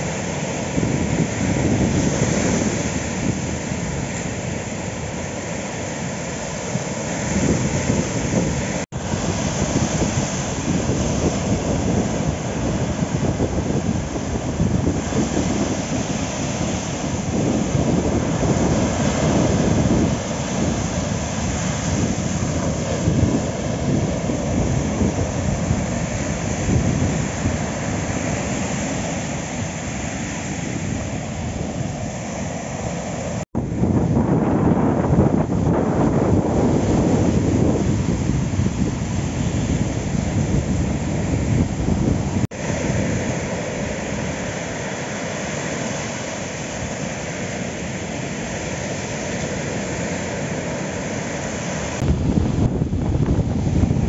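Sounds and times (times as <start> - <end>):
wind buffeting microphone: 0.0 - 5.6, 6.2 - 44.9, 46.5 - 54.0
surf breaking on beach: 0.0 - 54.0.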